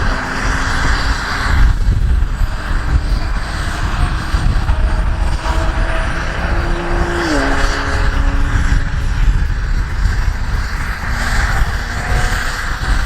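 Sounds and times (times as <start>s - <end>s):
helicopter engines starting up: 0.0s - 13.0s
wind rumble on microphone: 0.0s - 13.0s.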